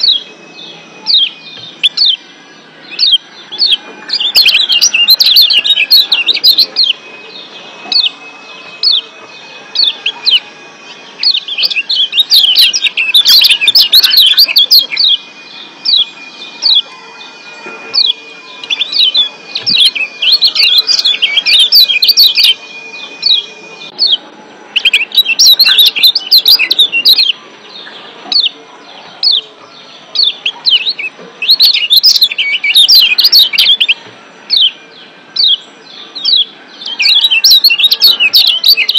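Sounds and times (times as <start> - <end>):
bird chirping sharply: 0.0 - 38.9.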